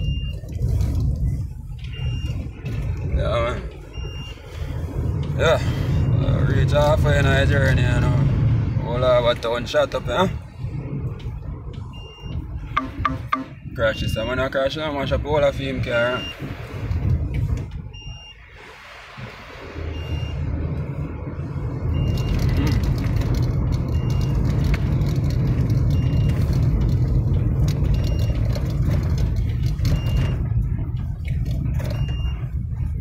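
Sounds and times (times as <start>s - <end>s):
engine and tyres rumbling: 0.0s - 33.0s.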